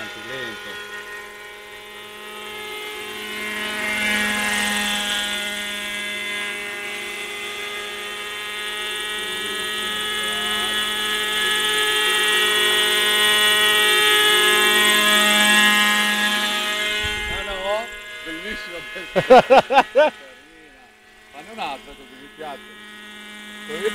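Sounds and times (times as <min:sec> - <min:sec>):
model helicopter engine whine: 0:00.0 - 0:23.9.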